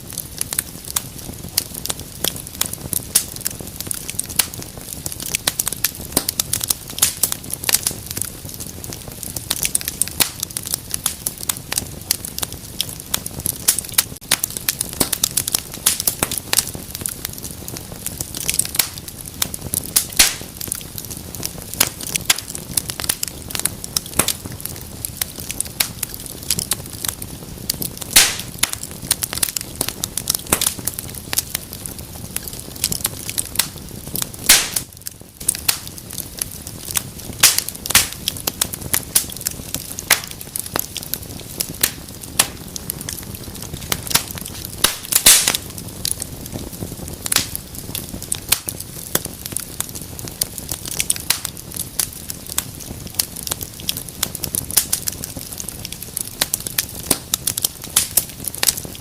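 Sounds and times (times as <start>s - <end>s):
fire crackling and popping: 0.0s - 59.0s
soft hiss of fire: 0.0s - 59.0s.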